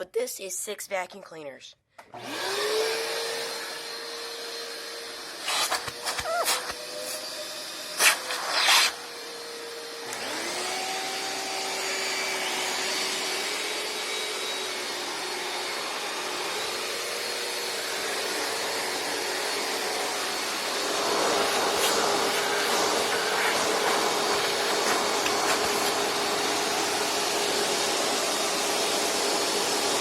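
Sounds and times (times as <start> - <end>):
vacuum cleaners whining: 2.1 - 30.0
vacuum motor spinning up: 2.1 - 30.0.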